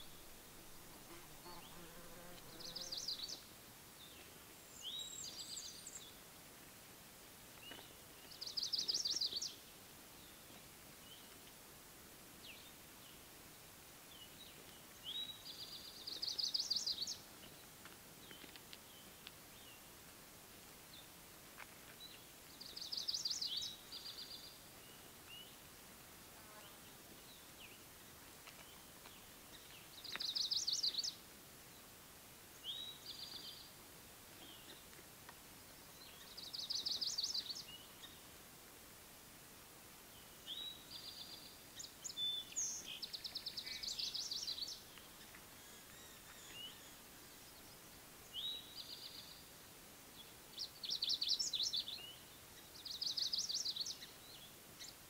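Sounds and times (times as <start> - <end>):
faint background hiss: 0.0 - 55.0.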